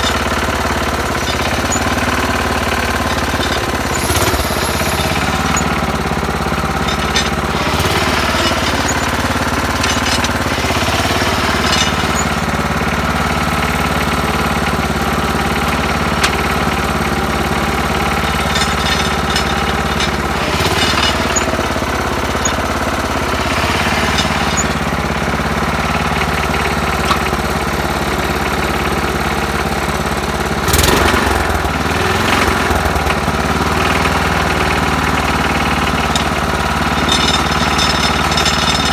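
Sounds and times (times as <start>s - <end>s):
tractor engine knocking steadily: 0.0s - 38.9s.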